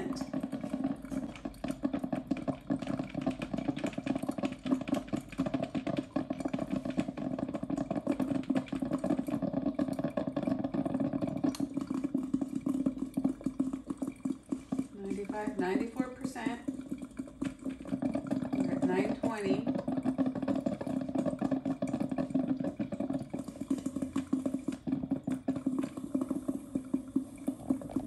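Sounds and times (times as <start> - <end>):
coffee maker gurgling: 0.0 - 28.0.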